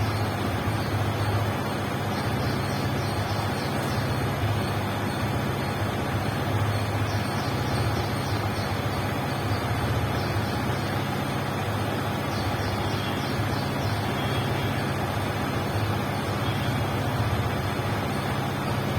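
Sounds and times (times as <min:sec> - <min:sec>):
motorcycle engine running steadily: 0:00.0 - 0:18.9.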